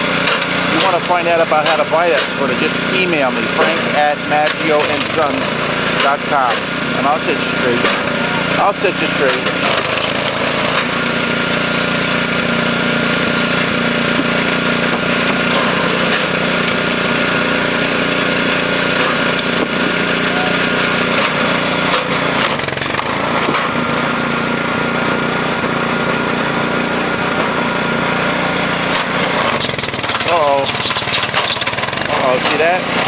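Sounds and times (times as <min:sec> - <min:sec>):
small gasoline engine running: 0:00.0 - 0:33.0.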